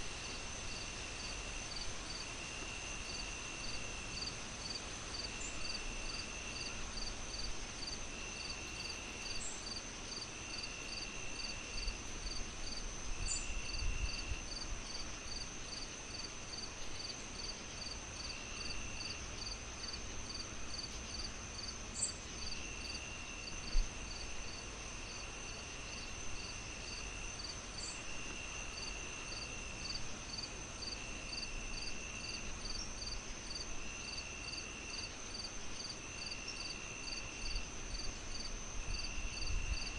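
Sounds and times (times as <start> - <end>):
insects chirping: 0.3 - 39.9.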